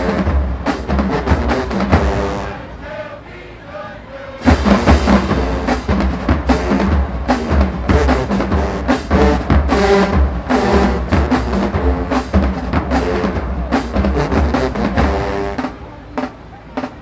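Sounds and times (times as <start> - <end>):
drums hammering fast rhythm: 0.0 - 2.7, 4.4 - 17.0
marching band playing: 0.0 - 17.0.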